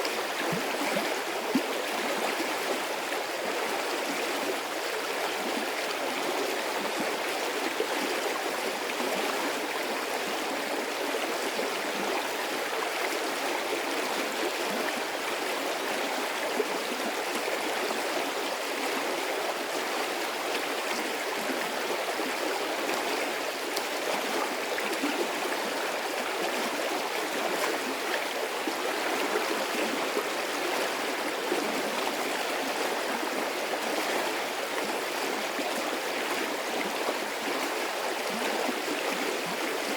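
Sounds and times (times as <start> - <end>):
stream rushing and babbling: 0.0 - 39.9.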